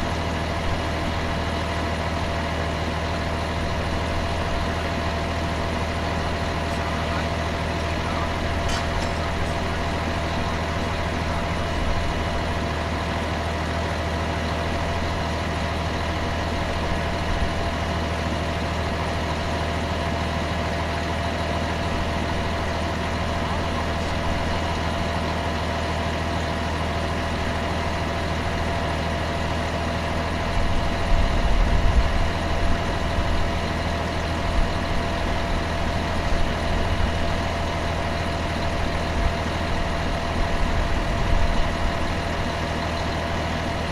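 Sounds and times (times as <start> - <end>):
heavy truck engine idling: 0.0 - 43.9.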